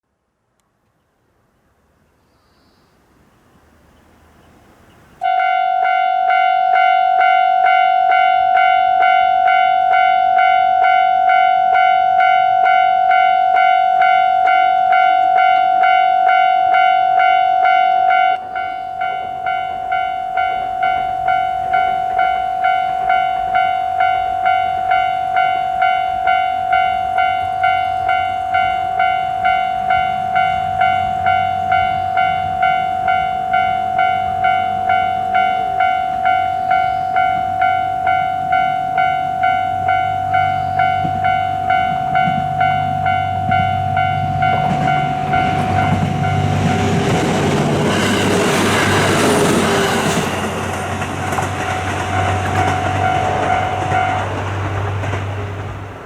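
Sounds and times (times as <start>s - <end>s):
low train rumble: 0.9s - 56.0s
level-crossing alarm ringing: 5.2s - 54.5s.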